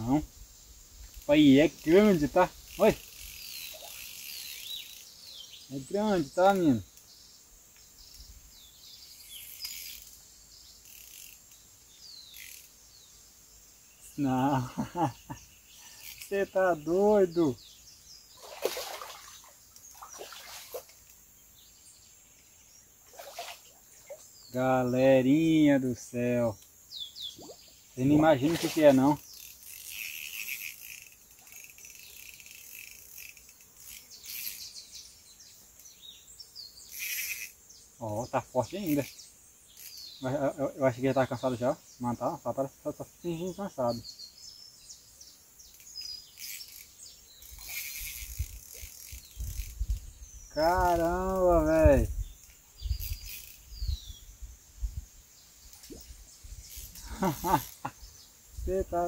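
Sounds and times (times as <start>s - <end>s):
birds chirping: 0.0s - 59.0s
insect buzz: 0.0s - 59.0s.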